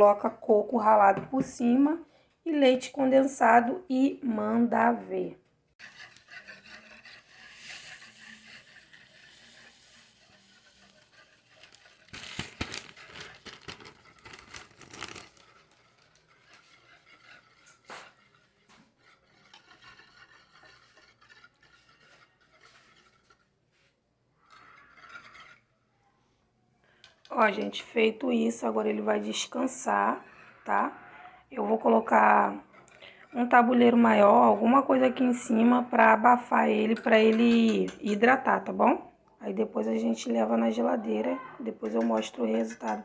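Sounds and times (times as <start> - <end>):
spoon stirring and scraping: 5.7 - 38.8, 40.2 - 43.0.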